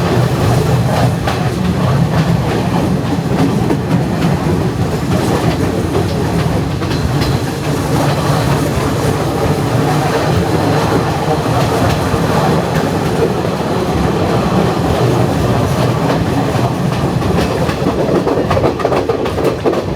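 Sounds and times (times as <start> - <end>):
train rumbling: 0.0 - 19.9
wheels clattering over rails: 0.0 - 19.9.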